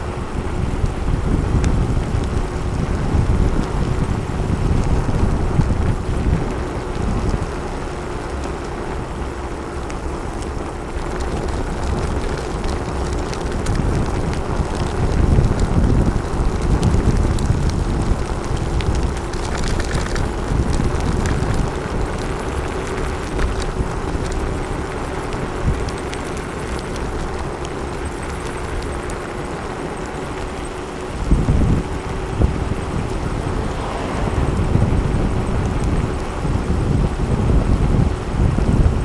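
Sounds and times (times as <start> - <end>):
tyre rolling on paved road: 0.0 - 39.0
wind buffeting microphone: 0.0 - 39.0
small clicks and rattles: 1.6 - 33.2.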